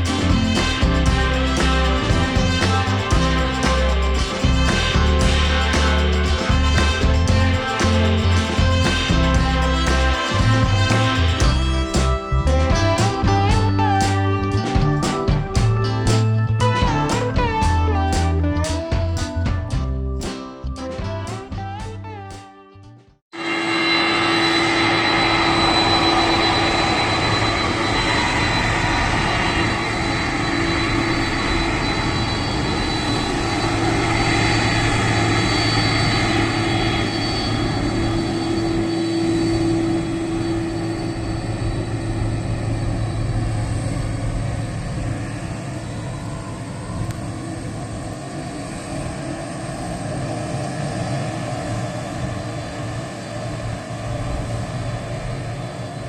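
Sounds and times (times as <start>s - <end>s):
jet engines whining and rumbling: 0.0s - 18.1s, 23.4s - 56.0s.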